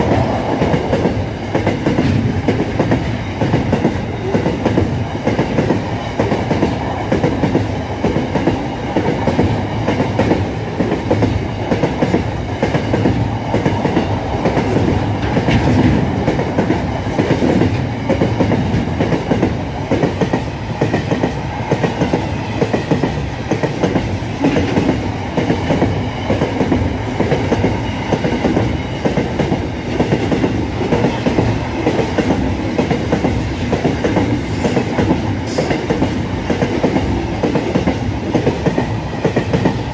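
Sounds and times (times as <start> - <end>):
train rumble: 0.0 - 39.9
train wheels clattering over rail joints: 0.0 - 39.9.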